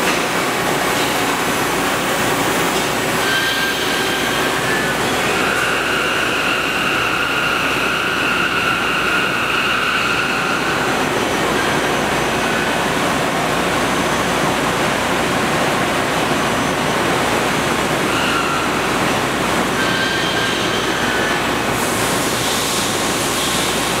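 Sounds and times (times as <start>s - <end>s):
loud rushing mechanical noise: 0.0s - 19.8s.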